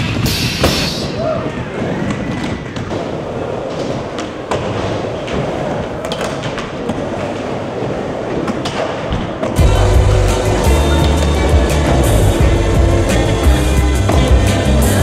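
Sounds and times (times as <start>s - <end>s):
skateboard clacks: 0.0s - 15.0s
skateboard wheels rolling on wood: 0.0s - 15.0s.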